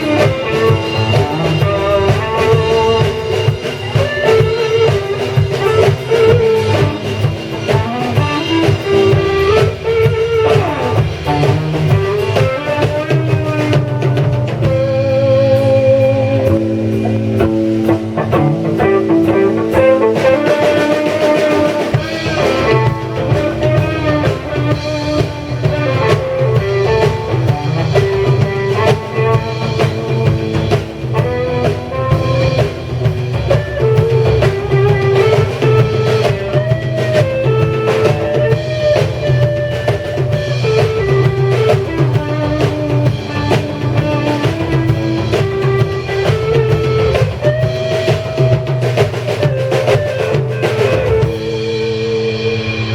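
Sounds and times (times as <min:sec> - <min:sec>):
bass guitar: 0:00.0 - 0:52.9
drum kit beat: 0:00.0 - 0:52.9
electric guitar: 0:00.0 - 0:52.9.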